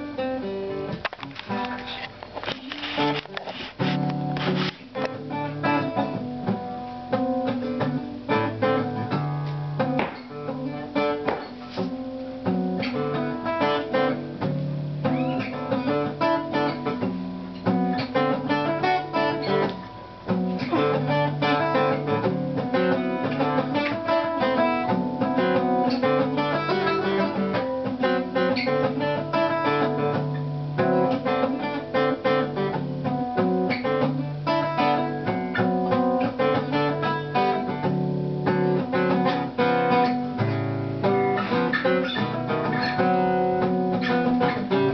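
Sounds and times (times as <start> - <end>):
acoustic guitar music: 0.0 - 44.9.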